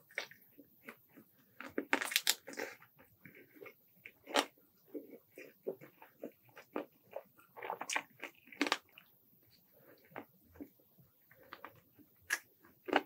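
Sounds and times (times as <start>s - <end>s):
crunching and chewing fried chicken: 0.0s - 13.0s.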